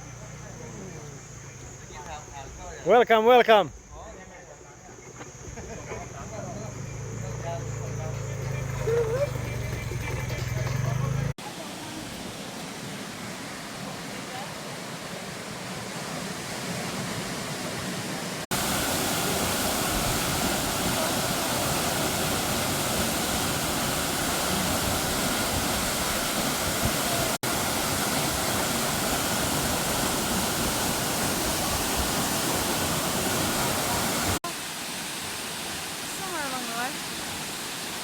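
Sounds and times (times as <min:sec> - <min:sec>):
waterfall rushing: 0:07.6 - 0:38.0.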